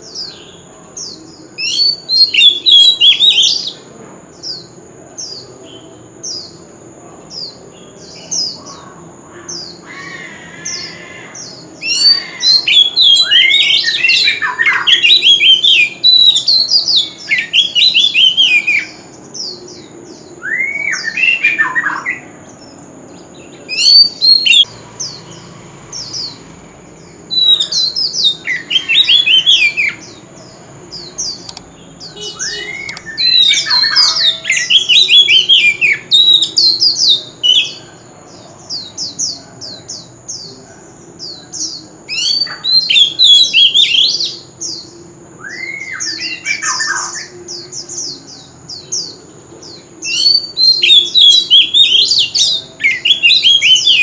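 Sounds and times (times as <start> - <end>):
bird singing whistled notes: 0.0 - 3.8, 9.5 - 38.0, 41.2 - 54.0.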